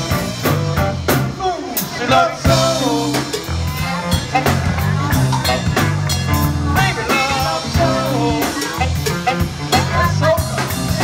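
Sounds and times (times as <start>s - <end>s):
drum kit beat: 0.0s - 11.0s
electric bass line: 0.0s - 11.0s
soul band playing: 0.0s - 11.0s
electric guitar: 1.9s - 11.0s.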